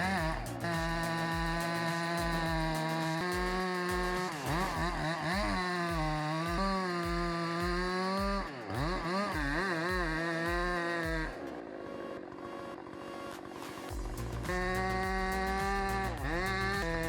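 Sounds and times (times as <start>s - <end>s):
thumping musical beat: 0.0s - 11.7s, 13.4s - 17.0s
chainsaw cutting wood: 0.0s - 12.3s, 13.9s - 17.0s.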